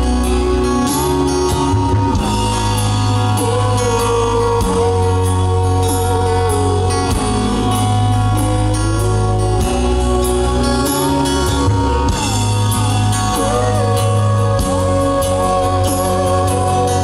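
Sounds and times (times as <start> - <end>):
live band music: 0.0 - 17.0
woman singing long notes: 0.0 - 17.0.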